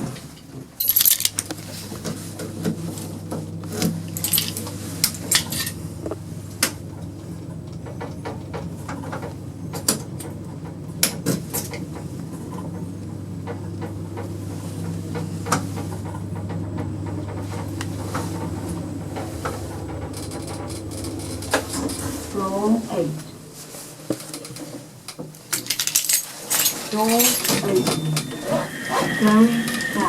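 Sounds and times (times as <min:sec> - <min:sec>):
clicks and rattles from lift car: 0:00.0 - 0:22.5, 0:24.1 - 0:29.4
lift doors clattering shut: 0:00.0 - 0:30.0
lift drive humming: 0:00.0 - 0:30.0.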